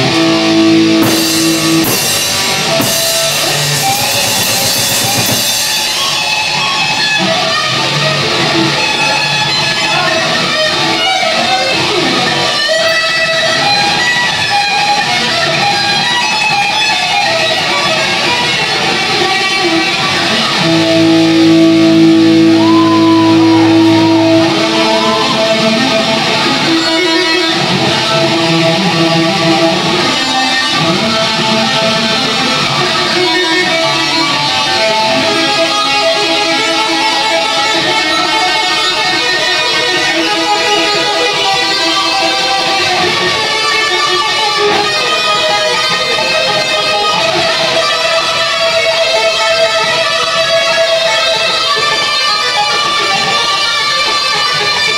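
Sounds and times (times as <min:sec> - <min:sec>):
electric guitar solo: 0:00.0 - 0:54.9.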